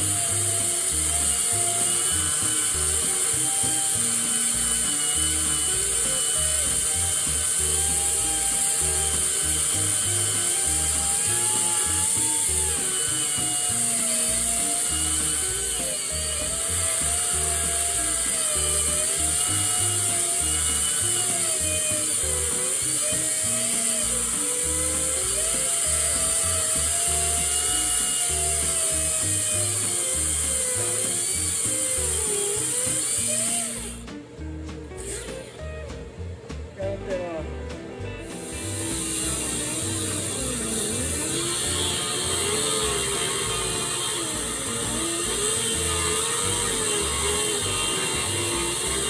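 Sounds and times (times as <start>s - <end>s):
background music with bass line: 0.0s - 49.0s.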